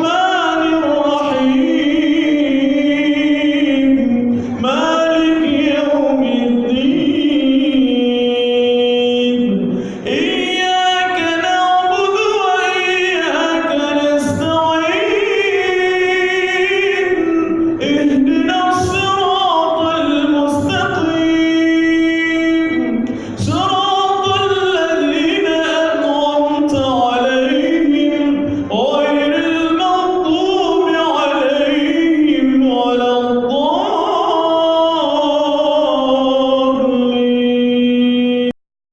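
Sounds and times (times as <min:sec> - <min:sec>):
man chanting melodious recitation: 0:00.0 - 0:38.6.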